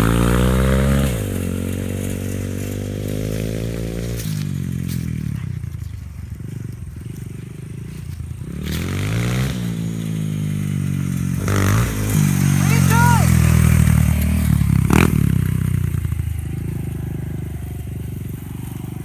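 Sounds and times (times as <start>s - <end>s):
dirt bike engine revving: 0.0s - 5.5s, 6.3s - 19.0s.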